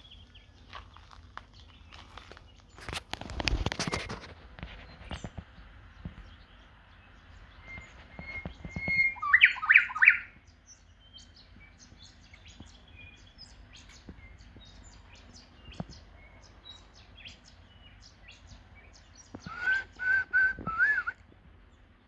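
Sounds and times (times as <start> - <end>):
small bird calling: 0.0 - 21.2.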